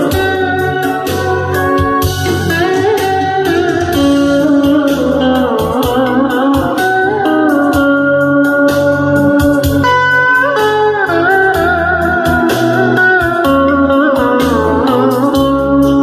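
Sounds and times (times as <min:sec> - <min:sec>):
bass and drum backing: 0:00.0 - 0:16.0
solo melody with pitch bends: 0:00.0 - 0:16.0.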